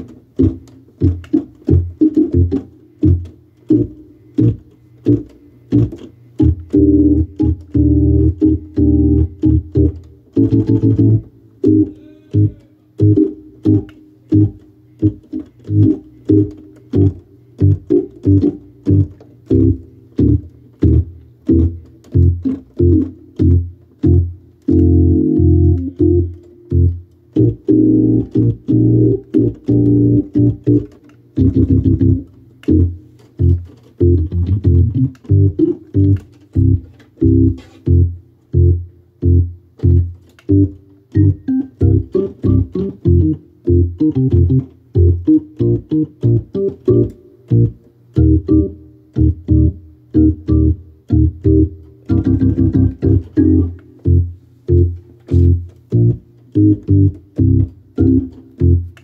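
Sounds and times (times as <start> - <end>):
organ chords and bass: 0.0 - 59.0.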